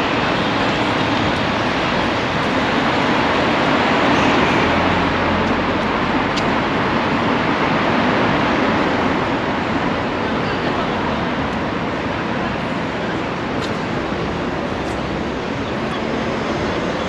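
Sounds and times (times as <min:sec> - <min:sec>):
rushing vehicle noise: 0:00.0 - 0:17.0.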